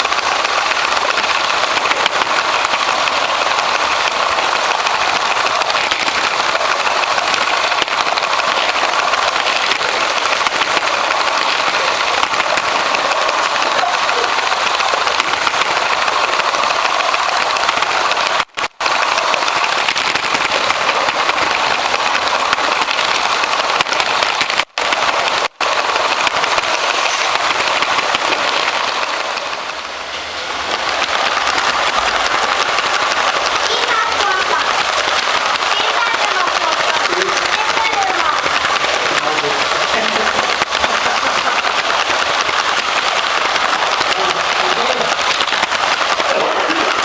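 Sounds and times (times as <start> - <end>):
toy train motor whirring: 0.0 - 47.0.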